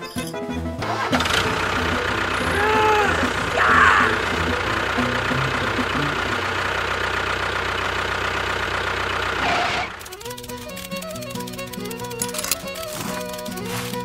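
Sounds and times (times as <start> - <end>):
engine idling: 0.2 - 14.0.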